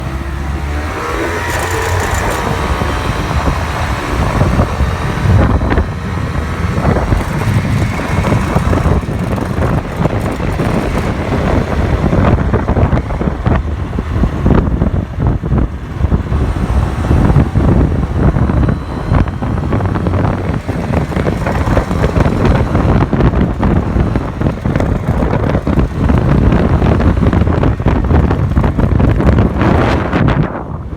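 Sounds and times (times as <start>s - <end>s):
scooter engine running: 0.0s - 30.9s
buzzing rattle: 1.0s - 14.8s, 15.4s - 30.0s.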